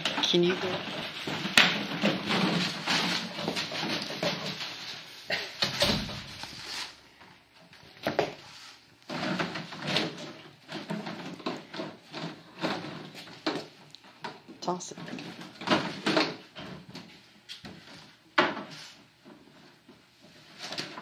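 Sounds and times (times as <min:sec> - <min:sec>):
plastic bottles crinkling and clattering: 0:00.0 - 0:08.4, 0:09.0 - 0:21.0.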